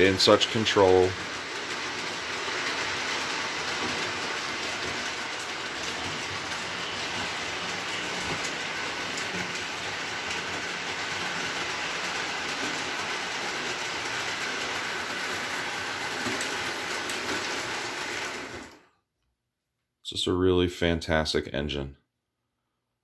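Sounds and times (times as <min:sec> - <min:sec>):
model train motor whirring: 0:00.0 - 0:18.8.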